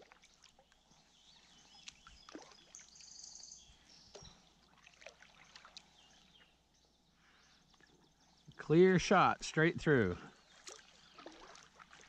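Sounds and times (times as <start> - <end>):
kayak paddles dripping and splashing: 0.0 - 12.0.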